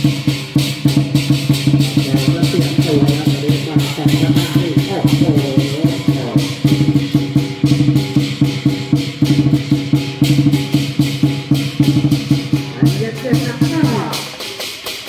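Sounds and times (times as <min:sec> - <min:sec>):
clashing cymbals: 0:00.0 - 0:15.0
drum beaten fast: 0:00.0 - 0:15.0.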